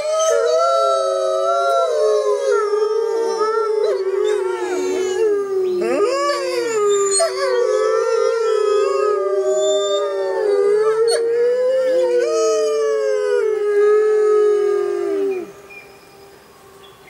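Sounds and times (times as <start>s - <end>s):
wolves howling in chorus: 0.0s - 15.7s.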